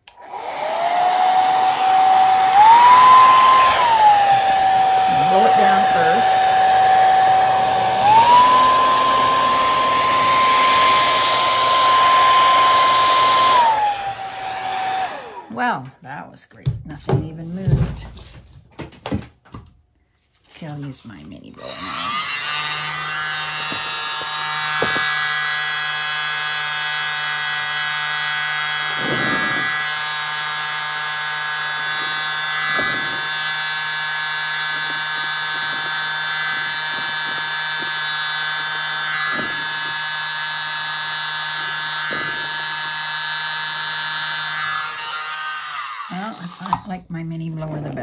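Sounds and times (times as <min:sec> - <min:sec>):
mini air blower whining: 0:00.0 - 0:15.8, 0:21.6 - 0:48.0.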